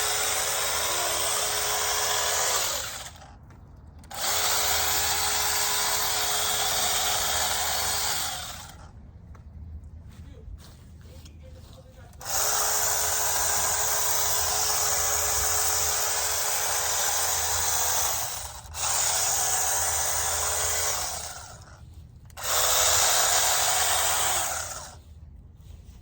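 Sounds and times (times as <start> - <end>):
mini chainsaw motor whine: 0.0 - 3.3, 4.0 - 8.9, 12.2 - 25.0.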